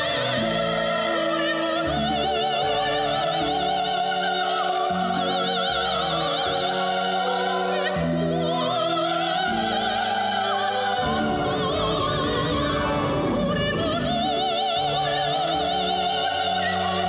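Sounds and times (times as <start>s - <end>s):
orchestral accompaniment: 0.0s - 17.0s
person singing with vibrato: 0.0s - 17.0s.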